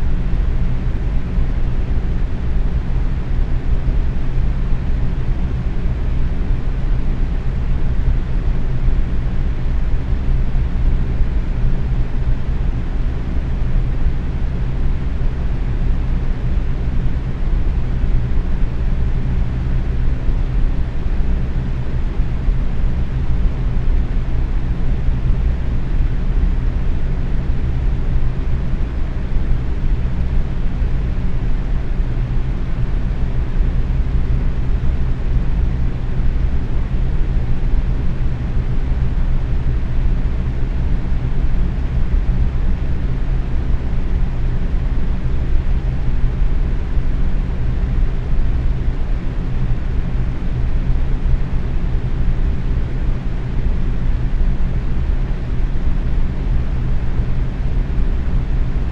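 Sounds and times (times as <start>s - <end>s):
box fan whirring: 0.0s - 58.9s.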